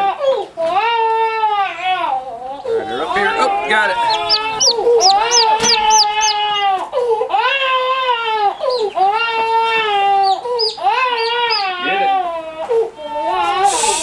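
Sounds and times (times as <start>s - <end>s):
infant crying: 0.8s - 13.9s
chicks peeping: 1.9s - 14.0s.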